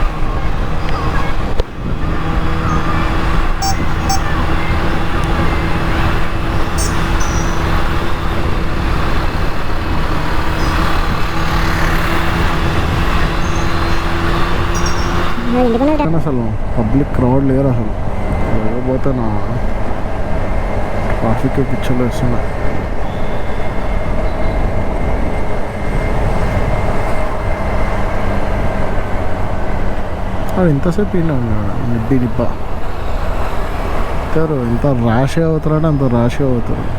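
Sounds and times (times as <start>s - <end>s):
scooter engine humming: 0.0s - 36.9s
wind rushing over microphone: 0.0s - 36.9s.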